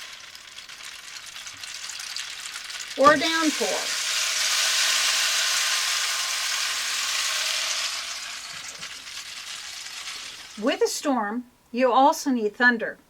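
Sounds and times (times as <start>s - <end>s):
rain stick pellets hissing: 0.0s - 10.9s.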